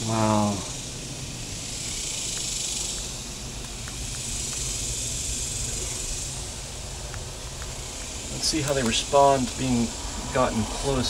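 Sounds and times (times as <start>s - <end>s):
bees humming: 0.0s - 11.0s.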